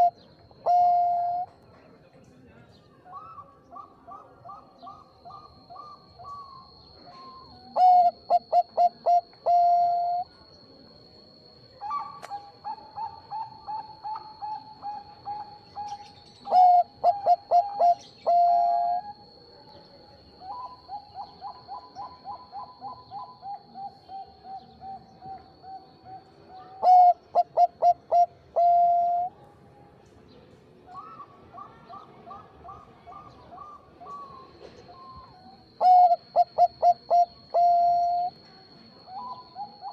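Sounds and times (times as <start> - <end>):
dove cooing: 0.0 - 1.5, 3.1 - 10.3, 11.3 - 19.3, 20.4 - 29.3, 31.0 - 38.4, 39.0 - 39.9
faint high-pitched whine: 0.0 - 39.9.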